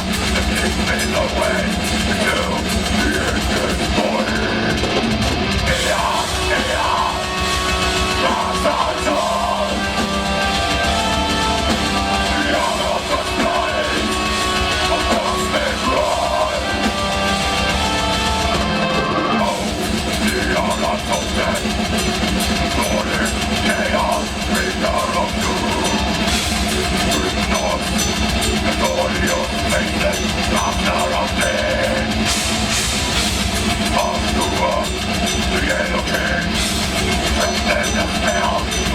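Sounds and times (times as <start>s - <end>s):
bass guitar: 0.0s - 38.9s
distorted guitars: 0.0s - 38.9s
pounding drums: 0.0s - 38.9s
vocals: 0.0s - 38.9s.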